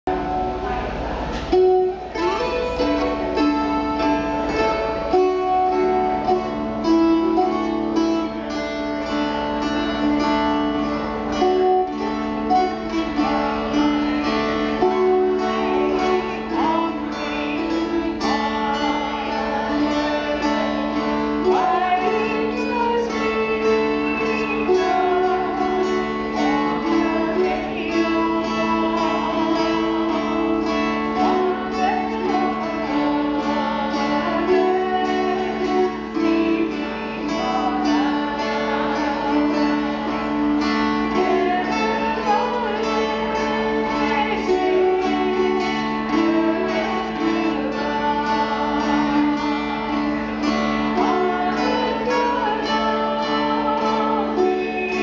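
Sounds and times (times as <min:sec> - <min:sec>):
dulcimers playing hymn tune: 0:00.0 - 0:55.0.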